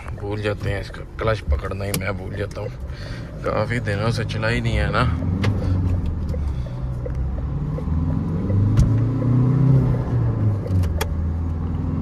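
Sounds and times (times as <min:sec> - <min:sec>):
pickup truck engine humming: 0:00.0 - 0:11.7.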